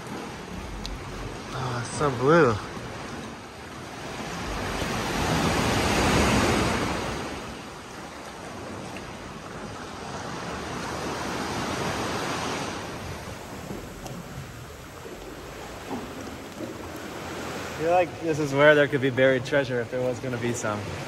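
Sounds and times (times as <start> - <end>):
sea swell washing in a cave: 0.0 - 21.0.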